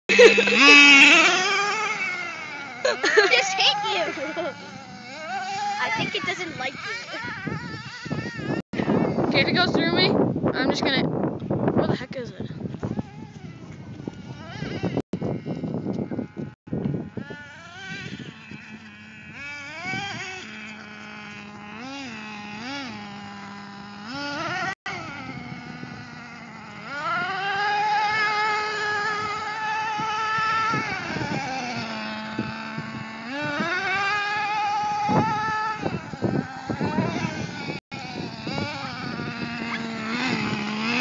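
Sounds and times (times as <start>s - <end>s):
rc truck motor revving and whining: 0.1s - 11.0s, 12.1s - 41.0s.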